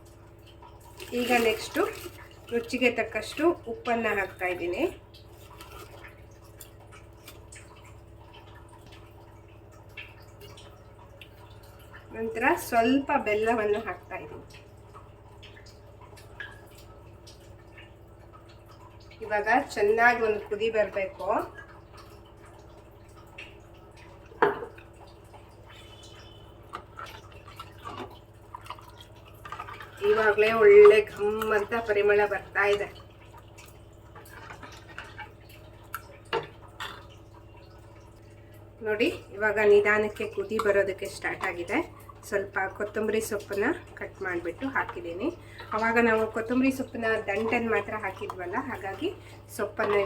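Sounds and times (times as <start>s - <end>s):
bubbles plopping in boiling pot: 0.0s - 50.0s
faint drips and ticks: 0.0s - 50.0s
faint steady hum: 0.0s - 50.0s.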